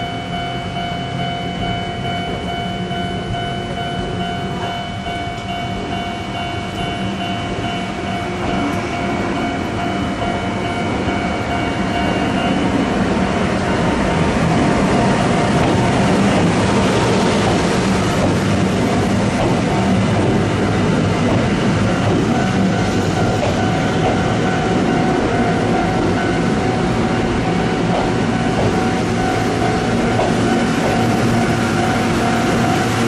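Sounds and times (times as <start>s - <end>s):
train wheels rumbling: 0.0s - 33.0s
train whine: 0.0s - 33.0s.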